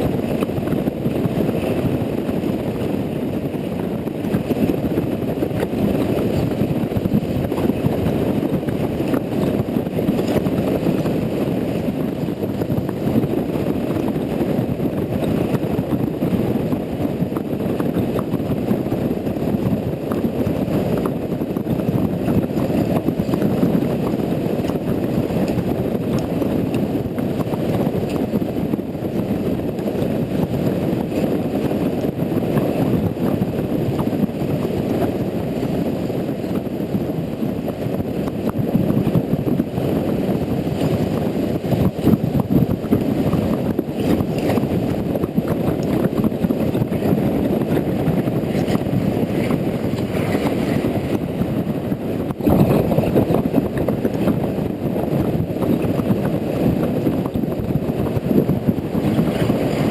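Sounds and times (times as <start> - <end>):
motorcycle engine and wind rumble: 0.0 - 59.9.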